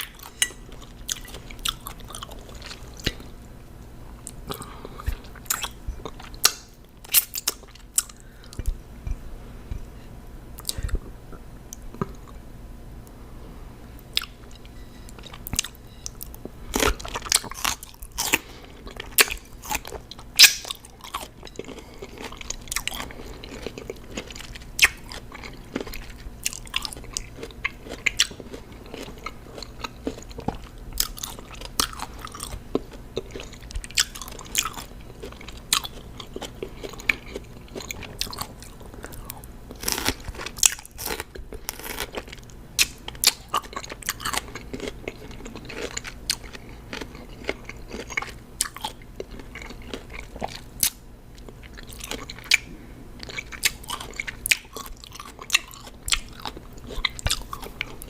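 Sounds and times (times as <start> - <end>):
chewing crunchy cucumber: 0.0 - 8.8, 14.0 - 58.0.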